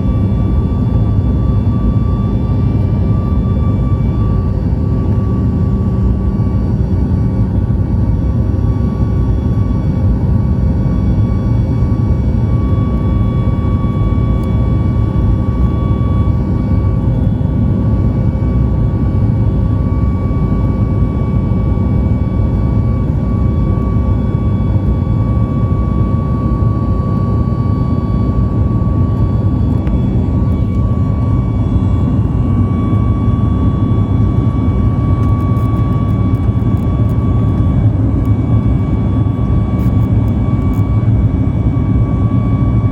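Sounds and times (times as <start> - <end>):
jet engine rumble in cabin: 0.0 - 42.9
jet engine whining tones: 0.0 - 42.9.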